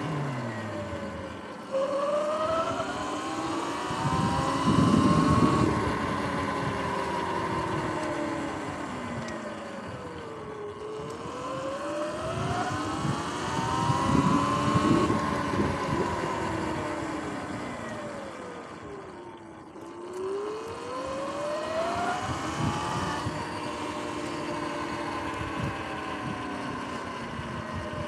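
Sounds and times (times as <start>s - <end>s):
electric motor whine: 0.0s - 28.0s
wind rumbling on microphone: 2.4s - 19.0s, 20.6s - 28.0s.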